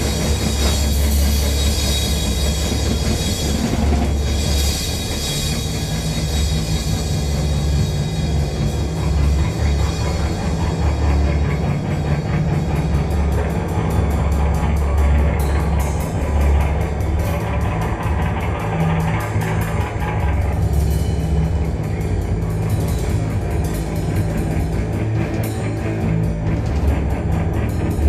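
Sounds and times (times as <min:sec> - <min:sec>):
bass guitar: 0:00.0 - 0:28.0
drum kit: 0:00.0 - 0:28.0.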